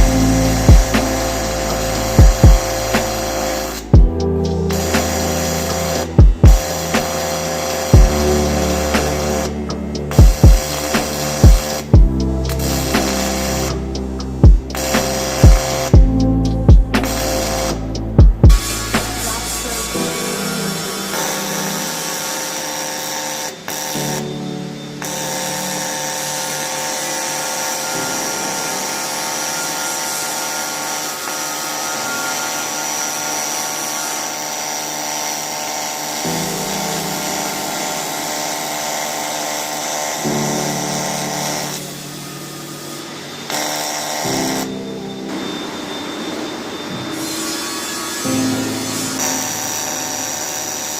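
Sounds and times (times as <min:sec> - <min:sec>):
background music: 0:00.0 - 0:50.9
welding arc buzzing: 0:00.0 - 0:50.9.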